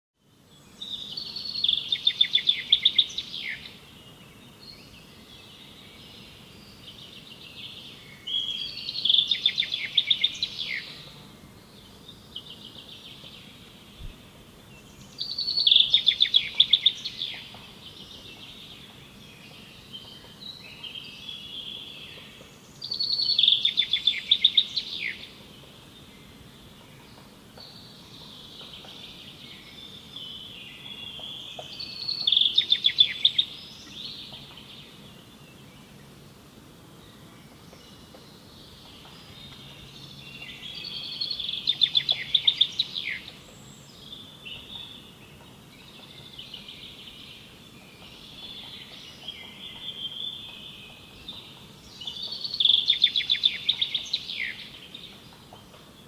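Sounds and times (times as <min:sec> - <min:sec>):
birdsong: 0:00.2 - 0:56.0.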